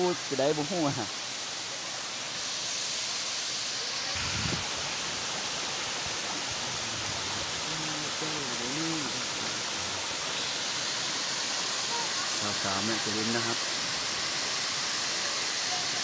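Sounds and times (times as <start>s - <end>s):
stream and waterfall rushing: 0.0s - 16.0s.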